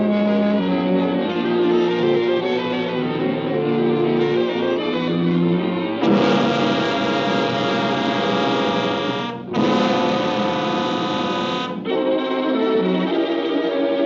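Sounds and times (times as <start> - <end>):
loud brass chords: 0.0 - 13.1
orchestral music: 0.0 - 13.3.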